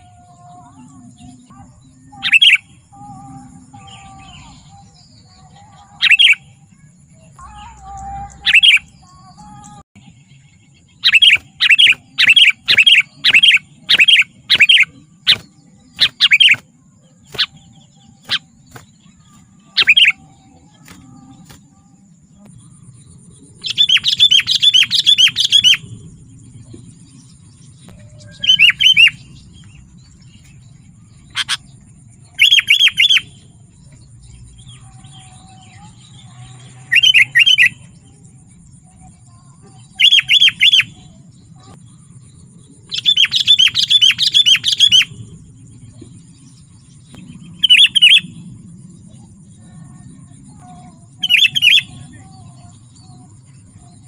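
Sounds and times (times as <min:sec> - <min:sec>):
bird chirping: 0:00.0 - 0:54.0
faint steady high tone: 0:00.0 - 0:54.0.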